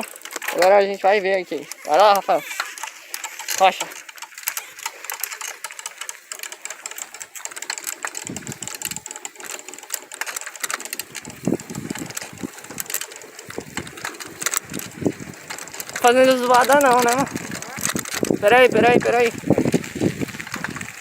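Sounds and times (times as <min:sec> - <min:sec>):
bicycle spokes clicking on plastic: 0:00.0 - 0:21.0.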